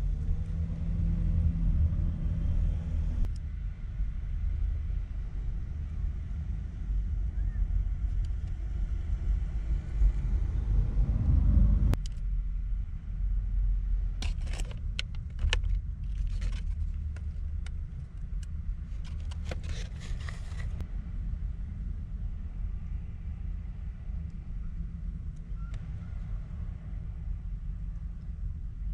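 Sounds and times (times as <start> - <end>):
low rumble: 0.0 - 28.9.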